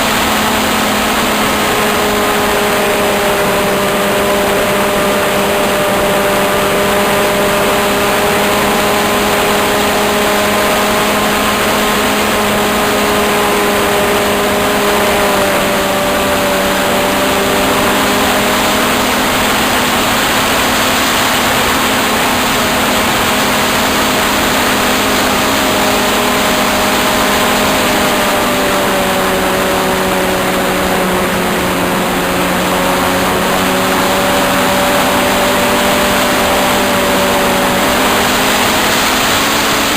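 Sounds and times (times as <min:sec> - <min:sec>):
model airplane engine droning: 0:00.0 - 0:39.9.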